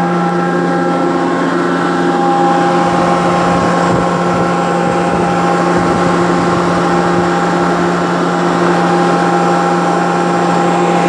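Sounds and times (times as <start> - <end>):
baler machine hum: 0.0 - 11.0.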